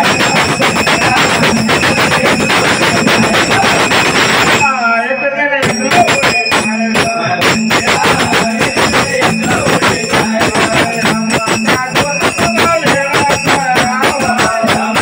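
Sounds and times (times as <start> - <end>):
hand drum fast strokes: 0.0 - 4.7, 5.6 - 15.0.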